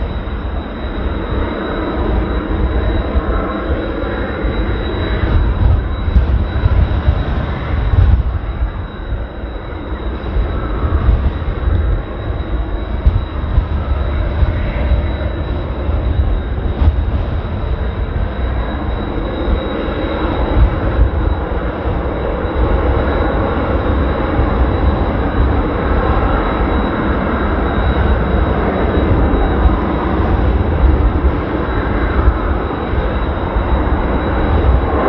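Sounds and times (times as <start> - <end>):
jet aircraft rushing noise: 0.0 - 35.0
wind buffeting microphone: 0.0 - 35.0.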